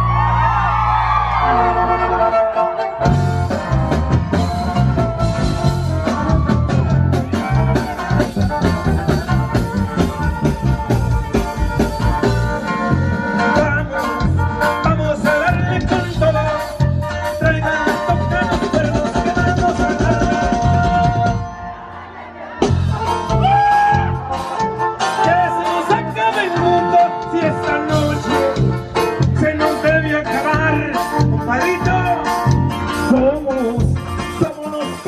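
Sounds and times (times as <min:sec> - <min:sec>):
live band music: 0:00.0 - 0:35.0.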